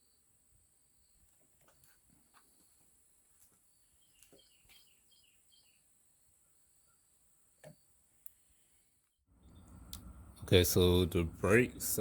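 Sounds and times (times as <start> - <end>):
bird chirping faintly: 0.0 - 10.3.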